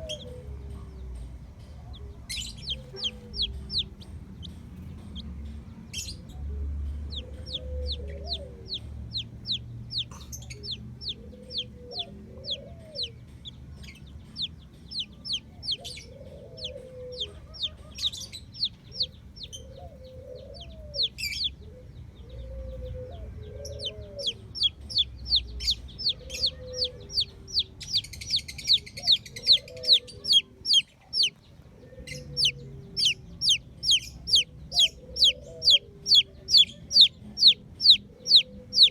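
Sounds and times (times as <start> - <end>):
chicks peeping: 0.0 - 38.9
hen clucking low: 1.9 - 5.2, 7.1 - 13.2, 14.9 - 21.6, 22.4 - 31.3, 31.9 - 38.9.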